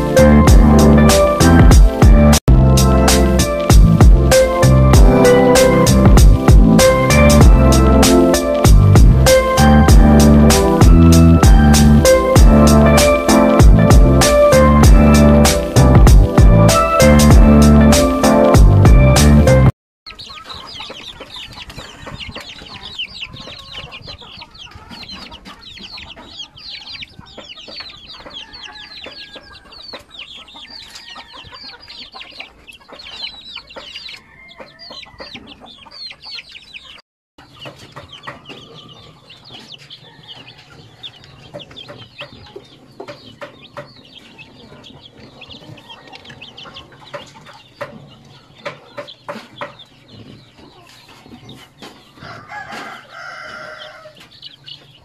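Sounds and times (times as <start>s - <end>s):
chicks peeping: 0.0s - 2.4s, 3.0s - 55.0s.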